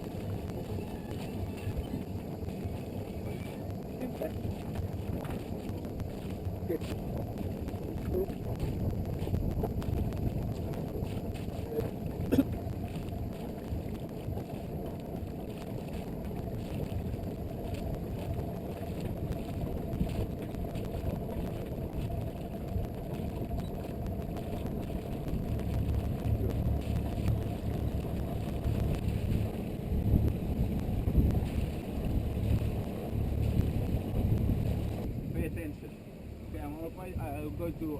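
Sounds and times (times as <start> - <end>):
boat low rumble: 0.0 - 37.9
wind buffeting microphone: 0.0 - 37.9.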